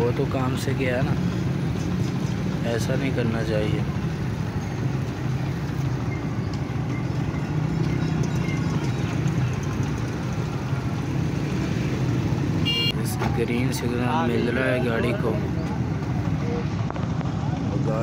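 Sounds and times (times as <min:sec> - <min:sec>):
idling engines: 0:00.0 - 0:18.0
street traffic: 0:00.0 - 0:18.0.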